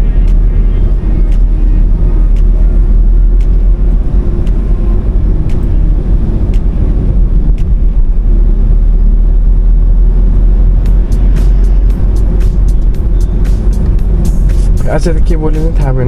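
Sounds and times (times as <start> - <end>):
car road and engine rumble: 0.0 - 16.0
sharp ticks: 0.2 - 8.0, 10.8 - 15.9.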